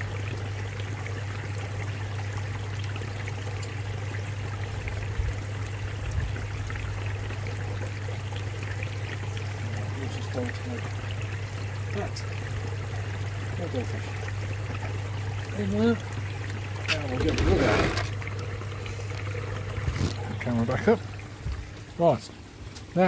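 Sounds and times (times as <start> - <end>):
running trickling water: 0.0 - 23.0.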